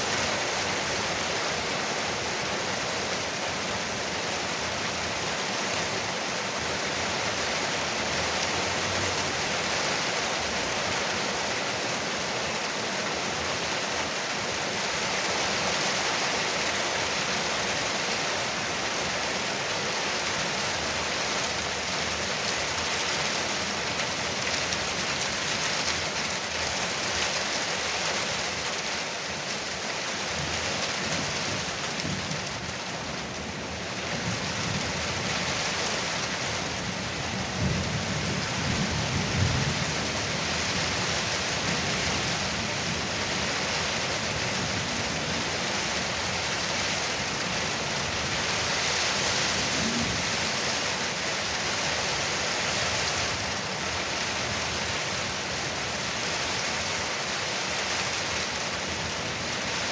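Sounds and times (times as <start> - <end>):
heavy rain on a roof: 0.0 - 59.9.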